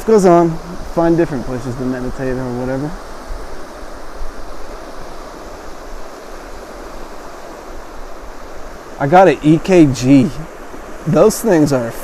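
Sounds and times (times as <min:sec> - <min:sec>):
surf on a beach: 0:00.0 - 0:12.0
wind on microphone: 0:00.0 - 0:12.0.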